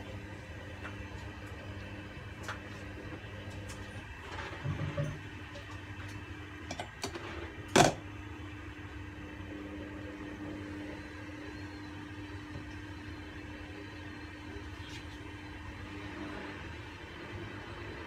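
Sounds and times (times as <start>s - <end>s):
kitchen appliance humming: 0.0s - 18.0s.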